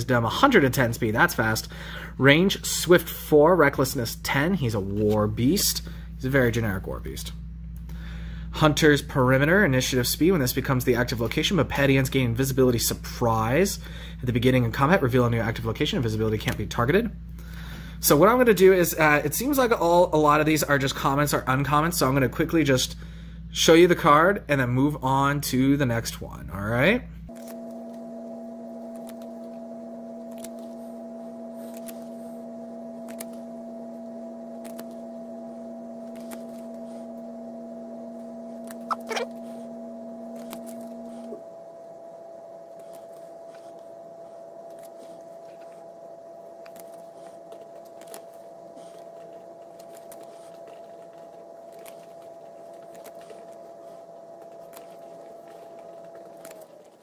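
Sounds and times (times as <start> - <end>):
steady two-tone hum: 0.0 - 57.0.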